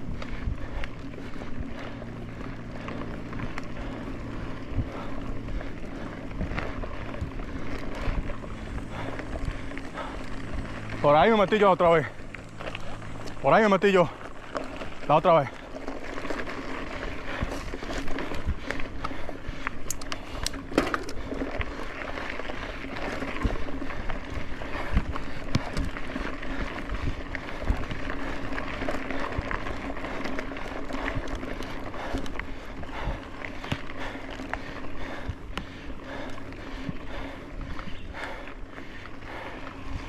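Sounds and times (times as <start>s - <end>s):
bike clicks and rattles: 0.0s - 40.0s
bike tyres on dirt trail: 0.0s - 40.0s.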